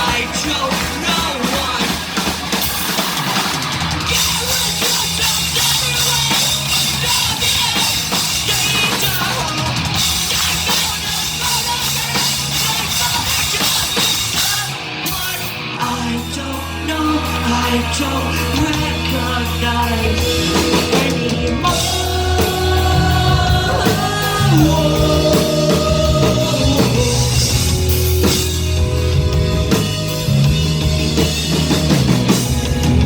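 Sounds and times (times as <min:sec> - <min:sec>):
bass guitar: 0:00.0 - 0:33.0
distorted guitars: 0:00.0 - 0:33.0
drum kit with cymbals: 0:00.0 - 0:33.0
live rock band playing: 0:00.0 - 0:33.0.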